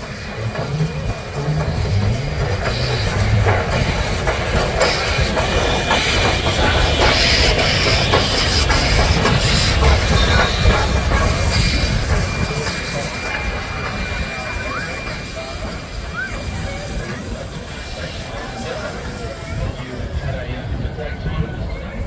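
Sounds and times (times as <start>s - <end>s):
wheels clicking over rail joints: 0.0s - 18.3s
steam hissing: 0.0s - 20.9s
steam locomotive running slowly: 0.0s - 22.0s.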